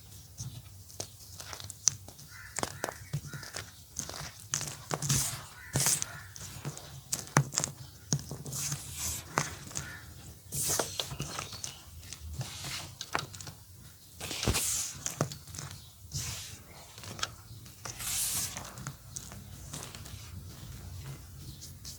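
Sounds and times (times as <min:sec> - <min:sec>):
chalk crunching and crackling: 0:00.4 - 0:13.6, 0:14.2 - 0:21.9.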